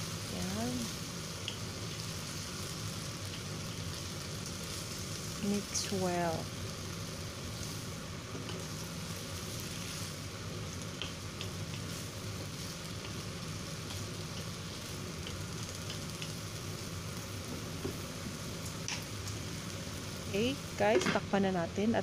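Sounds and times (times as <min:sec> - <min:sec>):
steady low hum: 0:00.0 - 0:22.0
stir-fry sizzling in a wok: 0:00.0 - 0:22.0.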